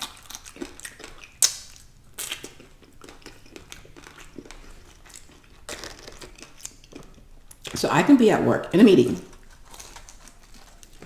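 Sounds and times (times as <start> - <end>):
person chewing and biting food: 0.0 - 7.8, 9.3 - 11.0.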